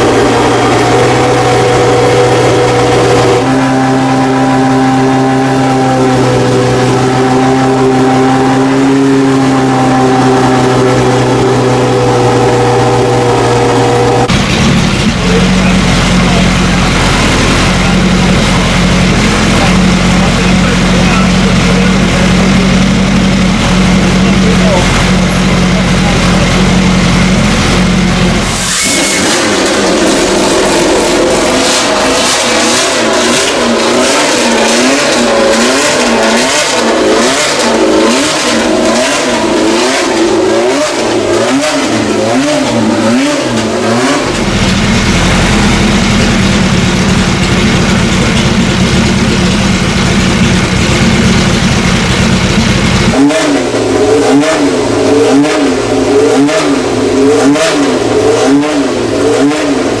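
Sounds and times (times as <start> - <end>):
racing car engines revving: 0.0 - 60.0.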